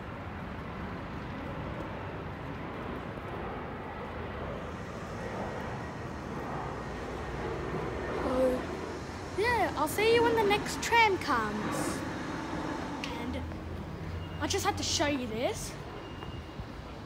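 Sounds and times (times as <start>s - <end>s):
aircraft rumble: 0.0s - 17.0s.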